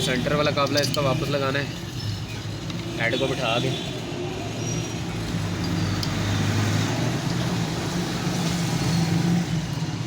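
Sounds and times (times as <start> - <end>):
road traffic drone: 0.0 - 10.0.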